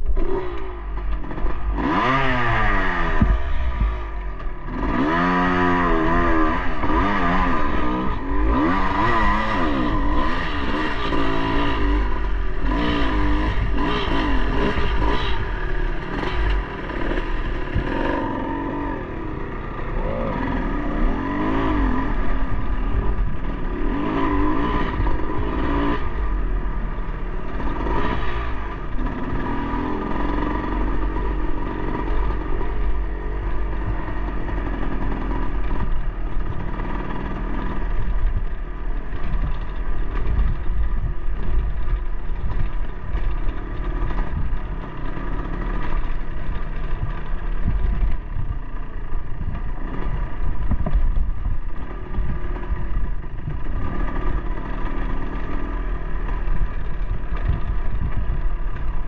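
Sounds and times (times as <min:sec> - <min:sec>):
bike knocking and rattling: 0:00.0 - 0:59.0
dirt bike engine running: 0:00.0 - 0:59.0.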